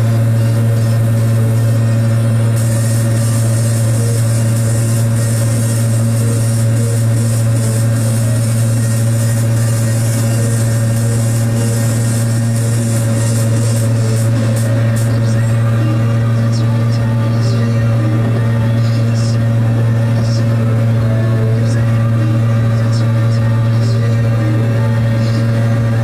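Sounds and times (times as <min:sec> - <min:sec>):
small two-stroke engine droning: 0:00.0 - 0:26.0.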